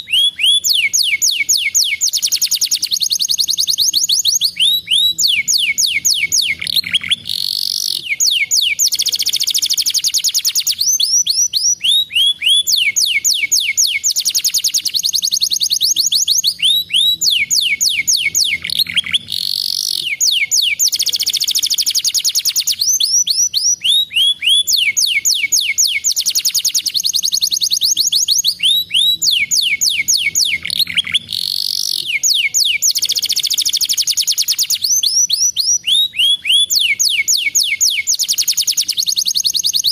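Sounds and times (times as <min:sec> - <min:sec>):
canary singing in rapid trills: 0:00.0 - 0:39.9.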